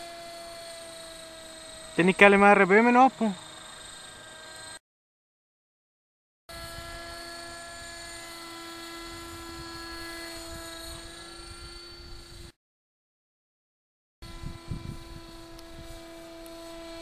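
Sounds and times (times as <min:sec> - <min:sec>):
rc helicopter whine: 0:00.0 - 0:04.8, 0:06.5 - 0:12.6, 0:14.2 - 0:17.0.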